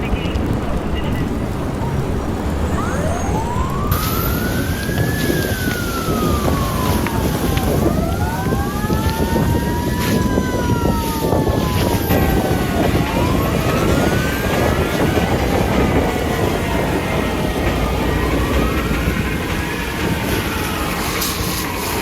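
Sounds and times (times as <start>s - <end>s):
emergency sirens wailing: 0.0s - 22.0s
loud steady rushing noise: 0.0s - 22.0s
lower siren: 0.3s - 22.0s.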